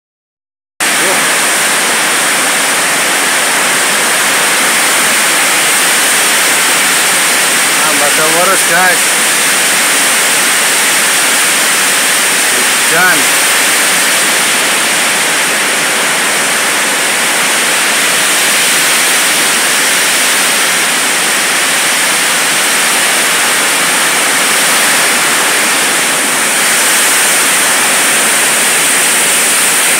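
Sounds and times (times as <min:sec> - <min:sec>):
heavy rain on metal roof: 0:00.8 - 0:29.9.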